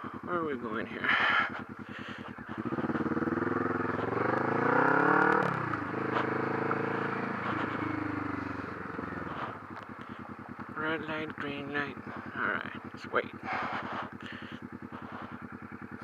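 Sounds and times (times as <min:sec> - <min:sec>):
motorcycle exhaust: 0:00.0 - 0:16.0.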